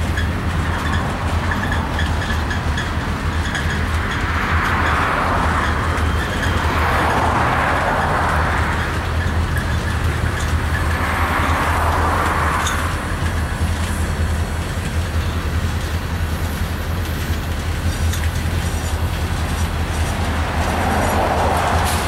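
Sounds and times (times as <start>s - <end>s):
freight train rolling on rails: 0.0s - 22.0s
wheels clicking over rail joints: 0.0s - 22.0s.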